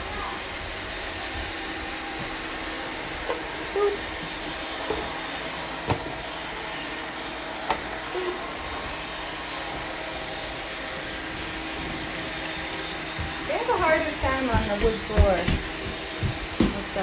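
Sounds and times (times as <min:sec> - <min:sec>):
robot vacuums whirring: 0:00.0 - 0:17.0.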